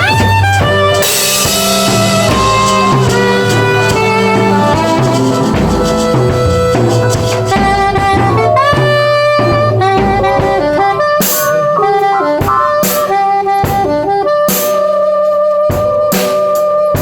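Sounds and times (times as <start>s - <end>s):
improvised band music: 0.0s - 17.0s.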